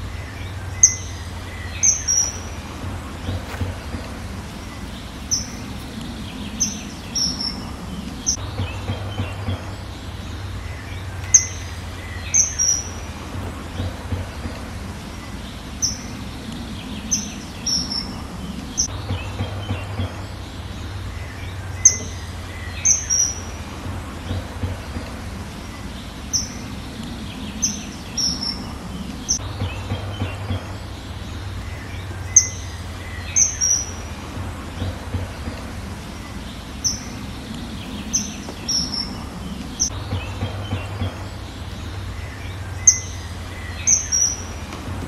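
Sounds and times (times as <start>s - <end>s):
birds chirping: 0.0s - 45.0s
low hum: 0.0s - 45.0s.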